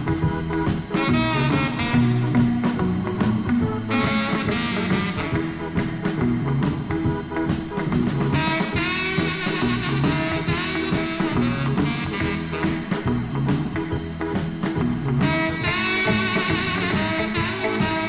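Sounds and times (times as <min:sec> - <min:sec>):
instrumental rock and roll music: 0:00.0 - 0:18.0.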